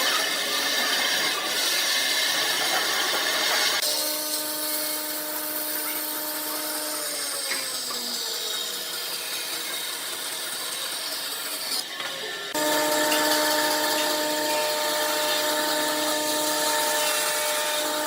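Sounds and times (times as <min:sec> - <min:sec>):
tool cutting spinning wood: 0:00.0 - 0:18.0
lathe motor whining: 0:00.4 - 0:18.0.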